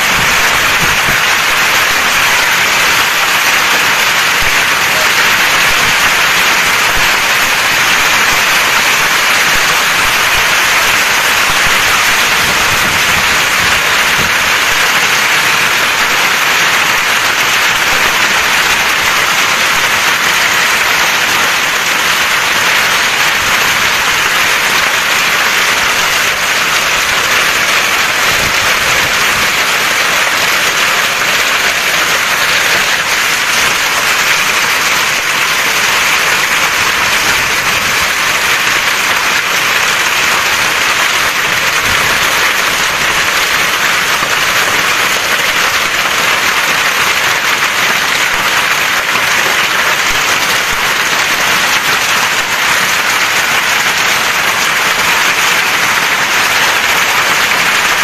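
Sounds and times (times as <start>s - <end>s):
hail and rain pelting: 0.0s - 58.0s.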